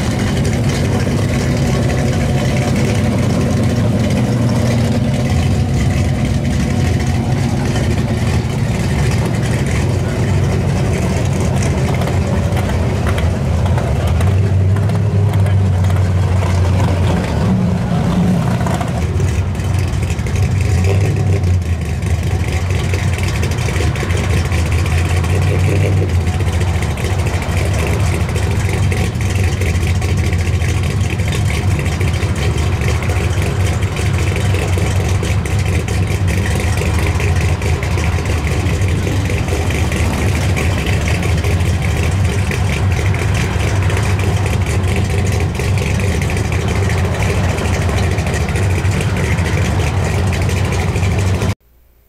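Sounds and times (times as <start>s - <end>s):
pickup engine idling: 0.0s - 52.0s.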